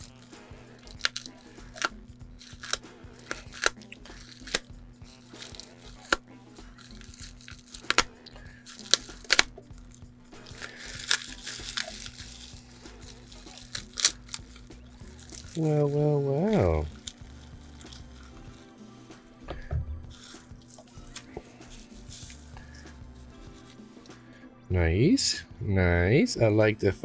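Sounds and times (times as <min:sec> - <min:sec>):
bubble wrap crinkling and snapping: 0:00.0 - 0:24.3.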